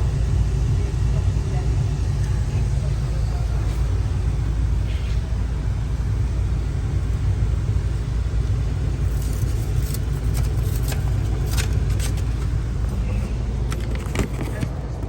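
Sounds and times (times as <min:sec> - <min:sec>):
gas furnace rumble: 0:00.0 - 0:15.0.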